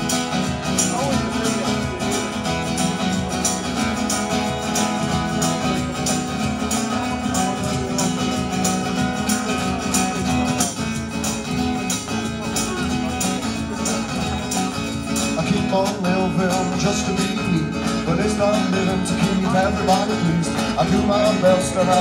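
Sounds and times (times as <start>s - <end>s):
electric guitar playing: 0.0s - 22.0s
steady drum beat: 0.0s - 22.0s.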